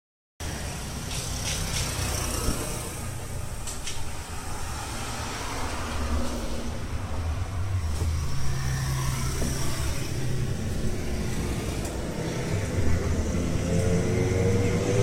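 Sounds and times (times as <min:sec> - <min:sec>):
road traffic rumble: 0:00.4 - 0:15.0.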